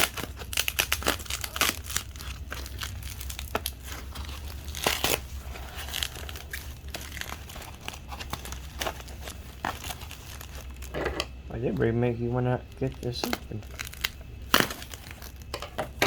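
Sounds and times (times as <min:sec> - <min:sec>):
packaging tearing: 0:00.0 - 0:11.0, 0:12.7 - 0:16.0
packaging crinkling: 0:00.0 - 0:16.0.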